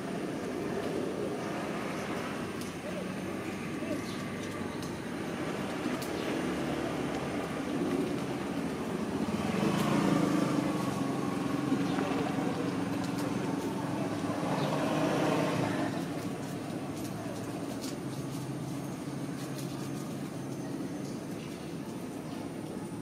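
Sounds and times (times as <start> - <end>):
outdoor background noise: 0.0 - 23.0
vehicle engine humming: 0.0 - 23.0.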